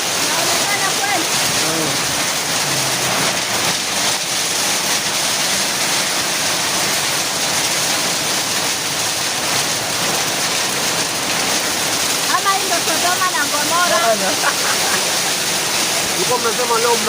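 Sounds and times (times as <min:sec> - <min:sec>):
heavy rain and hail: 0:00.0 - 0:17.0.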